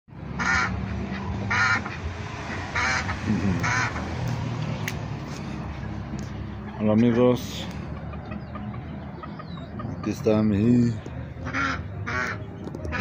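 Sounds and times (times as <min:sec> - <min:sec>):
poultry harsh nasal calls: 0:00.2 - 0:13.0.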